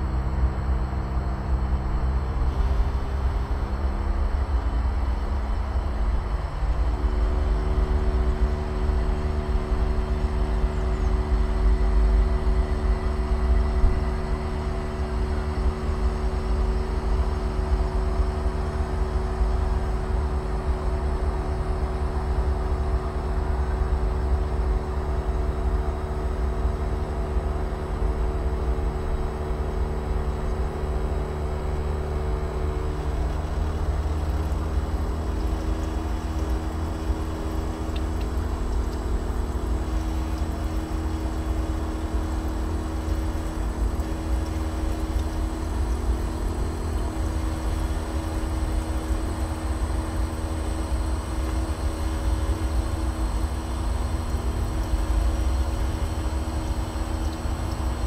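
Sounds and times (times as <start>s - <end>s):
heat pump humming: 0.0s - 58.0s.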